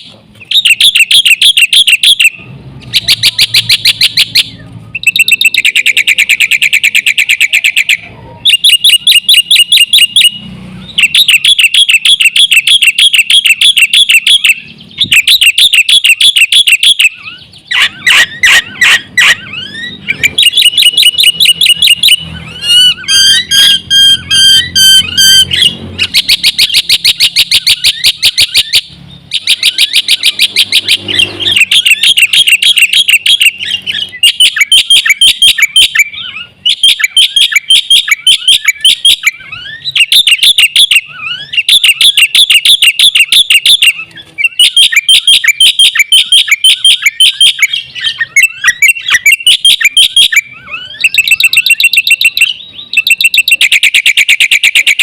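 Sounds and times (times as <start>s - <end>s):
bird singing rapid chirps: 0.0s - 55.0s
bird whistled notes: 0.0s - 55.0s.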